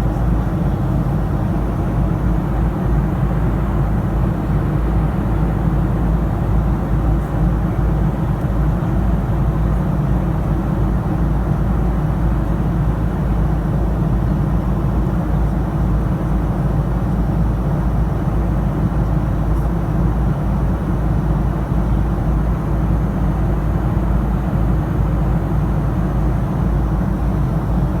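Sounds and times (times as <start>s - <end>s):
aeroplane cabin engine hum: 0.0s - 28.0s.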